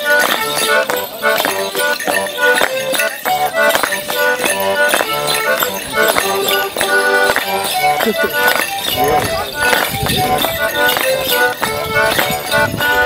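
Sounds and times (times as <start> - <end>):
clogs striking stone paving: 0.0 - 13.0
folk dance tune: 0.0 - 13.0.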